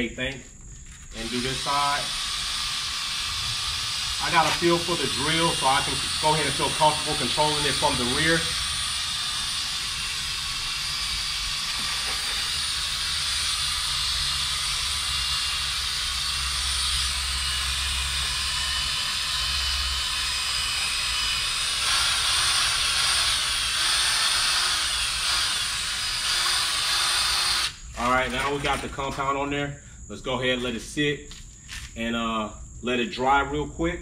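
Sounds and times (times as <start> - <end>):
electric drill whirring: 0.9 - 28.8.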